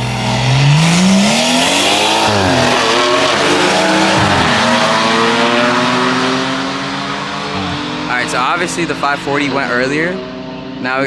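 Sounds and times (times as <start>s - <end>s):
car engines accelerating hard: 0.0s - 11.0s.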